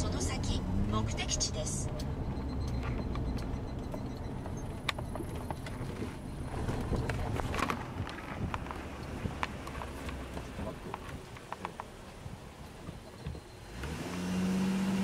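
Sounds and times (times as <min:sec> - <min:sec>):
car cabin rumble: 0:00.0 - 0:13.8.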